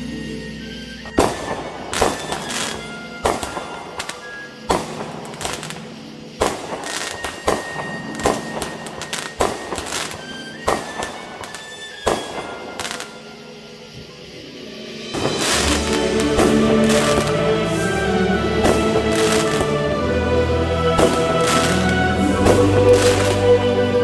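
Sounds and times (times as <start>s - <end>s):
fireworks bursting with sharp bangs: 0.6s - 24.0s.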